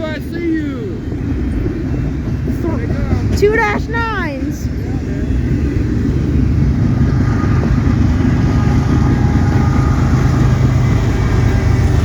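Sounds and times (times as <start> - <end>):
diesel locomotives working: 0.0 - 12.0
freight train passing: 0.0 - 12.0.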